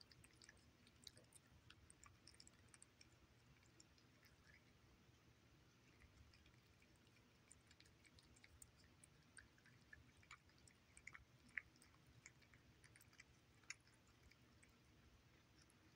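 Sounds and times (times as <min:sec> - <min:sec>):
cats chewing wet food: 0:00.0 - 0:15.9.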